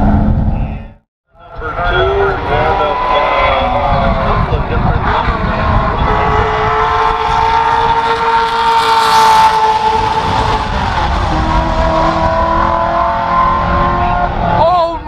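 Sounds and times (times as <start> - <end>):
race car engine passing at high revs: 1.6 - 14.7.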